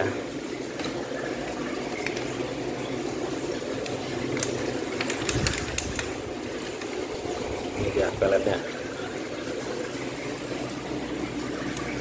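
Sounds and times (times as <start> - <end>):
aquarium filter running: 0.0 - 12.0.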